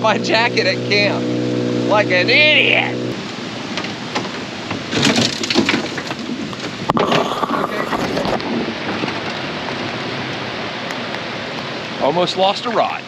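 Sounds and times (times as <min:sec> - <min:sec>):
heavy rain pouring: 0:02.3 - 0:13.0.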